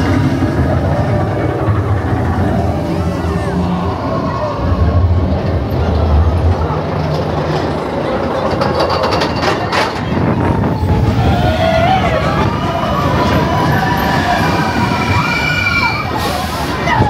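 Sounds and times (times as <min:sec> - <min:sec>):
roller coaster rumbling on track: 0:00.0 - 0:17.0.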